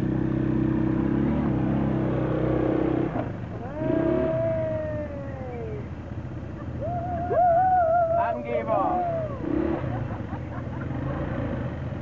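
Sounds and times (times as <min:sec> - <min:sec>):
quad bike engine running hard: 0:00.0 - 0:12.0.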